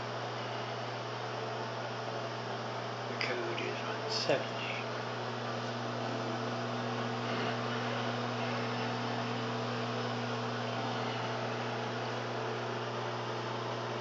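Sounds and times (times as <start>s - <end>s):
microwave oven running: 0.0s - 14.0s.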